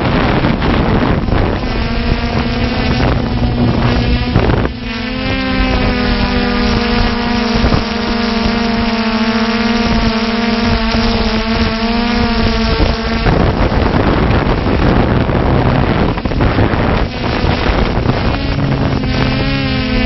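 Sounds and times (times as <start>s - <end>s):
drone propellers whining: 0.0s - 20.0s
wind noise on microphone: 0.0s - 20.0s.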